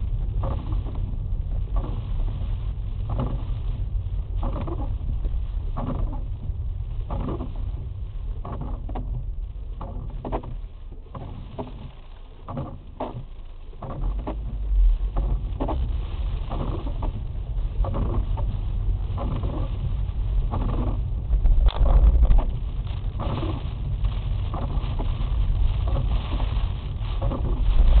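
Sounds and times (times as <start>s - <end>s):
hail tapping on windshield: 0.0s - 28.0s
moving car rumble: 0.0s - 28.0s.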